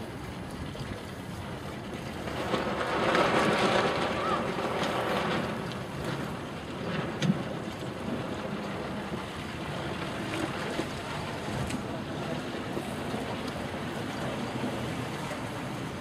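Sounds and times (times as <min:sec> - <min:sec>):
water washing: 0:00.0 - 0:16.0
wind buffeting microphone: 0:00.0 - 0:16.0.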